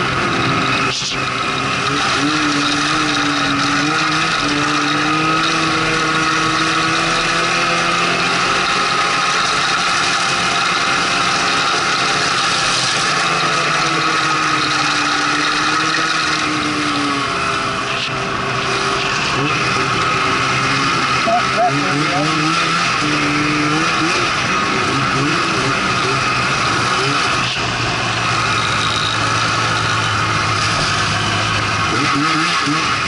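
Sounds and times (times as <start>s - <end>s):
snowmobile engine running: 0.0s - 33.0s.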